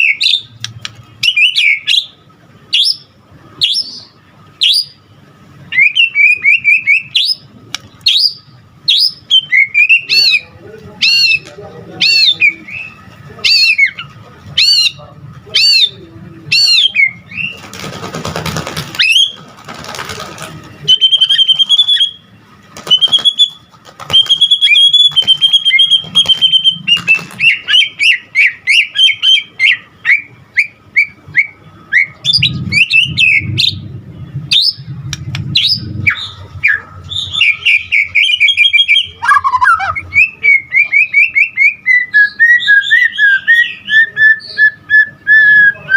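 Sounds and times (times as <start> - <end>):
songbird singing and warbling: 5.7 - 17.7, 20.9 - 45.9.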